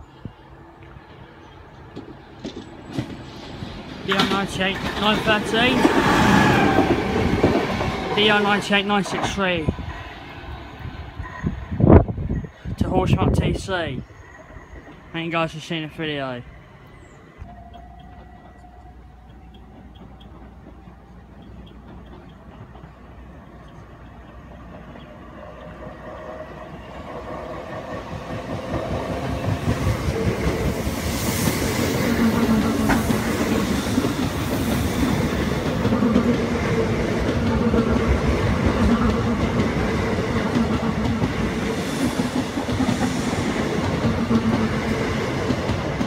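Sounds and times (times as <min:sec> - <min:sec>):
electric train rushing past: 0:00.0 - 0:46.0
train wheels clickety-clack: 0:00.8 - 0:10.0, 0:17.4 - 0:46.0.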